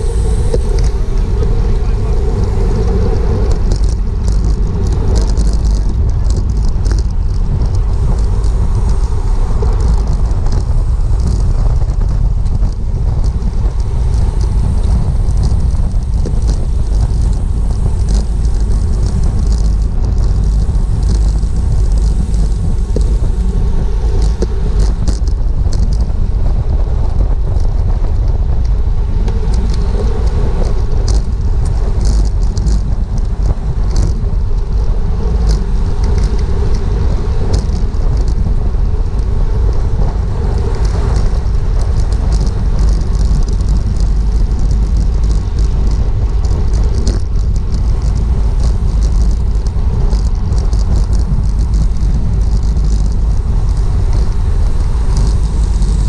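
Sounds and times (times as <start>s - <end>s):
heavy wind rumble: 0.0s - 56.0s
road and bike noise: 0.0s - 56.0s.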